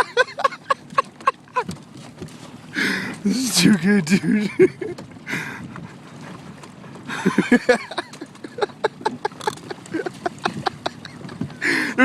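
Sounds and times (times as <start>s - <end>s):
pelicans knocking on a boat: 0.0s - 5.9s, 6.5s - 11.7s.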